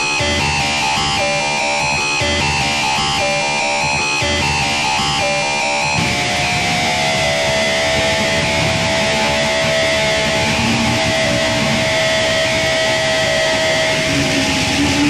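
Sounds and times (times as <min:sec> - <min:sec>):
distorted noise music: 0:00.0 - 0:15.0.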